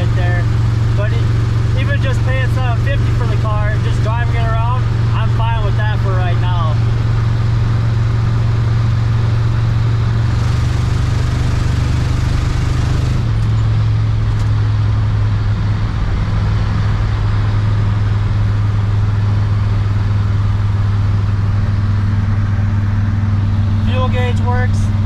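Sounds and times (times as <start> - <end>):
car engine and road drone: 0.0 - 25.0.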